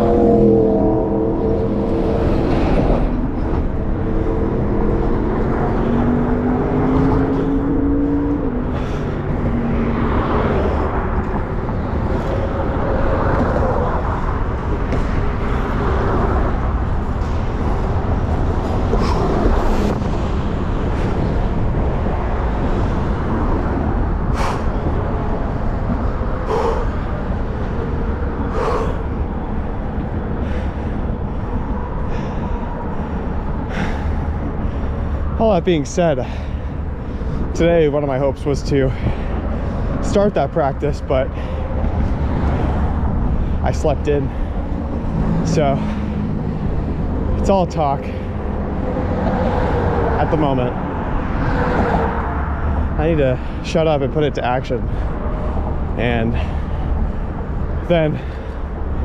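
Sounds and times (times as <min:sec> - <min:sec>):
city street traffic rumble: 0:00.0 - 0:59.0
passing vehicle engine: 0:00.0 - 0:59.0.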